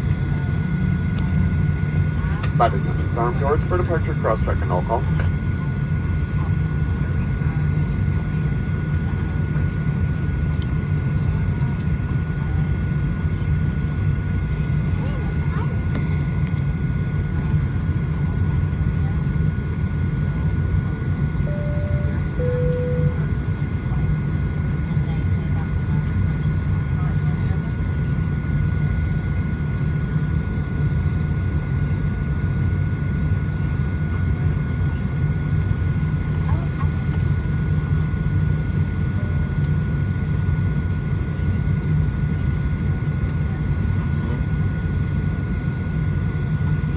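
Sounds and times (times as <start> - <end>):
aircraft cabin drone: 0.0 - 46.9
thin steady whine: 0.0 - 46.9.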